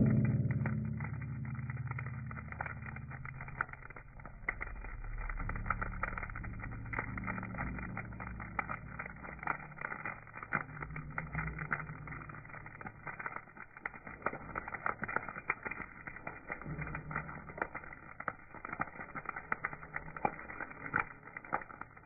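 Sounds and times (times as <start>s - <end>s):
low rumble: 0.0s - 22.0s
wood fire crackling: 0.0s - 22.0s.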